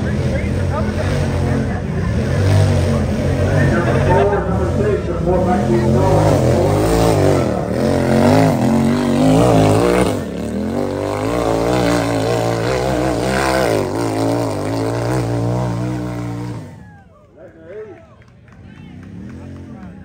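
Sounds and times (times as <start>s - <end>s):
utility vehicle engine revving: 0.0s - 17.1s, 18.5s - 20.0s.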